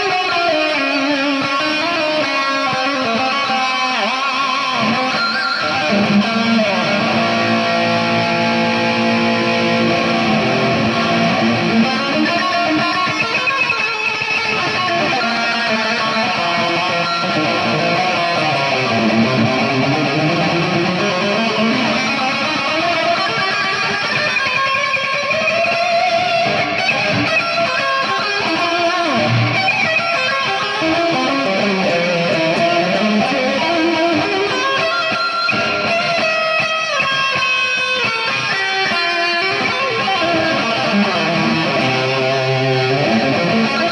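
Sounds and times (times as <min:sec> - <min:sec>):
electric guitar playing: 0:00.0 - 0:43.9.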